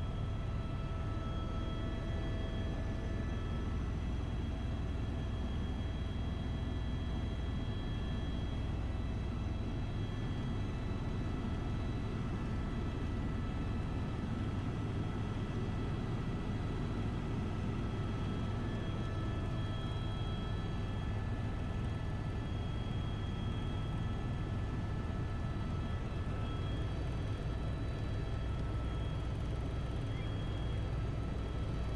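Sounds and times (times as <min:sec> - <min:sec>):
helicopter rotor and engine drone: 0:00.0 - 0:31.9.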